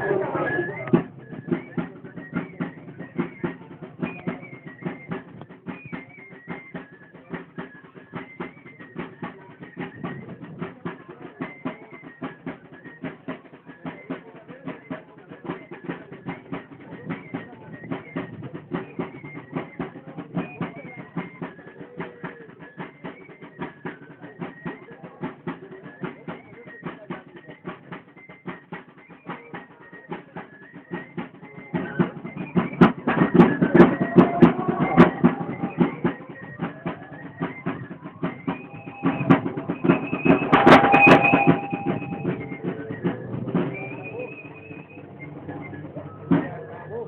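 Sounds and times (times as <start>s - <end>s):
wavering wind instrument melody: 0.0s - 26.6s, 27.2s - 47.0s
drum beating fast rhythm: 0.0s - 47.0s.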